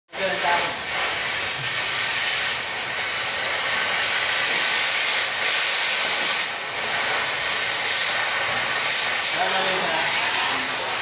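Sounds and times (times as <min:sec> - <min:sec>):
welding arc crackling hiss: 0:00.1 - 0:11.0.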